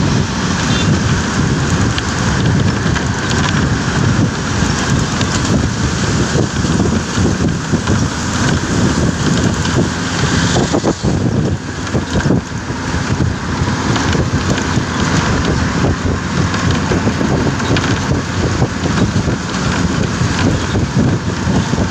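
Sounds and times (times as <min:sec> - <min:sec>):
bus diesel engine running: 0:00.0 - 0:21.9
wind rushing in window: 0:00.0 - 0:21.9.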